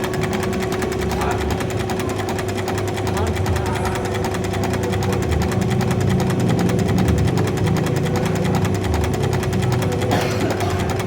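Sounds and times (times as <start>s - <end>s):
constant pump hum: 0.0s - 11.0s
rapid mechanical clatter: 0.0s - 11.0s.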